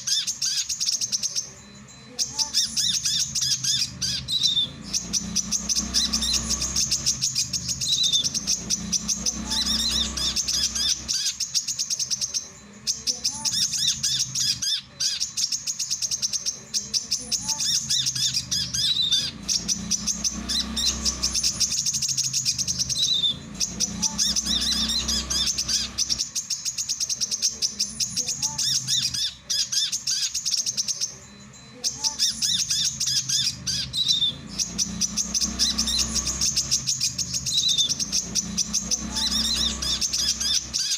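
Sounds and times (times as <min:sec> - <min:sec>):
sunbird singing high chattering: 0:00.0 - 0:40.9.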